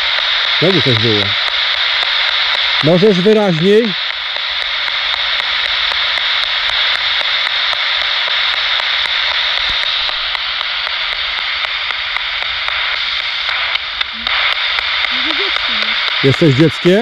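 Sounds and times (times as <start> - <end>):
quick regular clicks: 0.0 - 17.0
radio static: 0.0 - 17.0.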